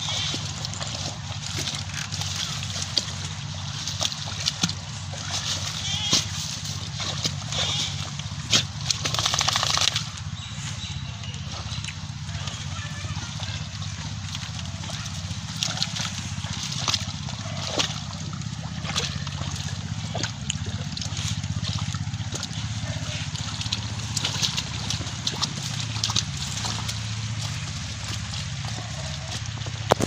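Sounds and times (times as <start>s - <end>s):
dog splashing through water: 0.0s - 30.0s
steady low hum: 0.0s - 30.0s.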